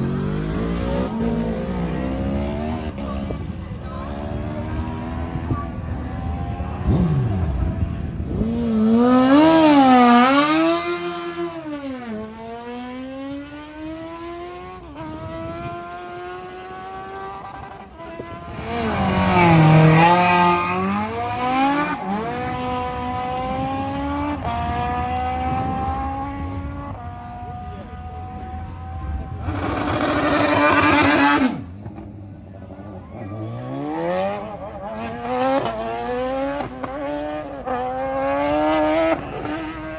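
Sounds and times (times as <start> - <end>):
race engines revving and accelerating: 0.0 - 39.9.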